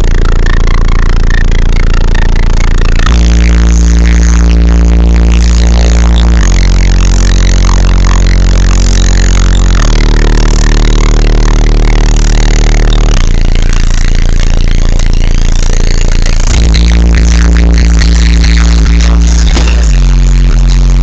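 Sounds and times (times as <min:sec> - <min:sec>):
deep bass from car subwoofers: 0:00.0 - 0:21.0.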